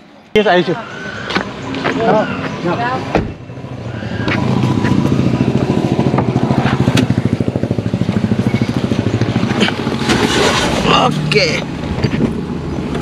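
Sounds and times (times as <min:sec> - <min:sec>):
vehicle engine idling: 0:01.2 - 0:13.0.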